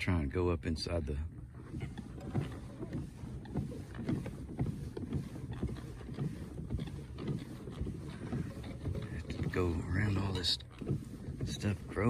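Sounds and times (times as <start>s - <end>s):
kayak knocking through plants: 1.4s - 12.0s.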